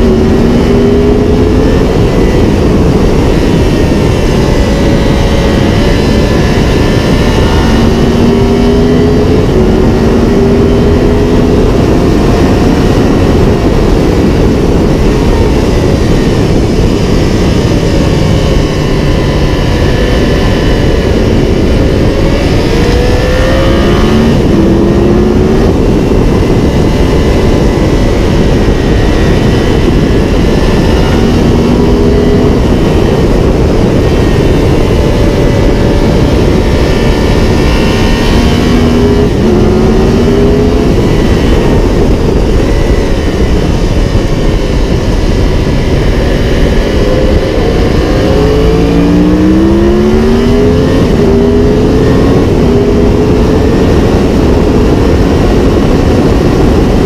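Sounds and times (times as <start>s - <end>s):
heavy wind rush: 0.0s - 57.0s
motorcycle engine accelerating: 0.0s - 57.0s.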